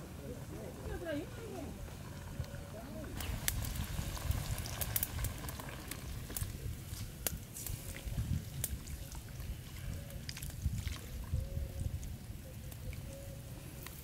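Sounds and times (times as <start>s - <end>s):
stew simmering: 0.0s - 14.0s
fire popping and crackling: 0.4s - 14.0s.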